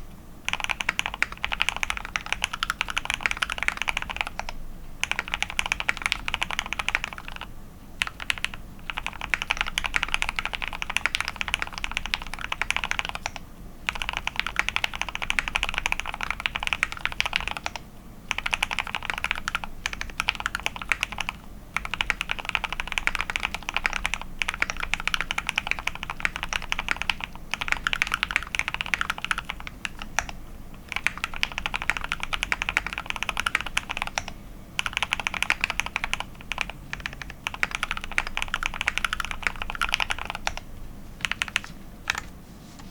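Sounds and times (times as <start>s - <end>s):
mechanical keyboard typing: 0.5s - 42.3s.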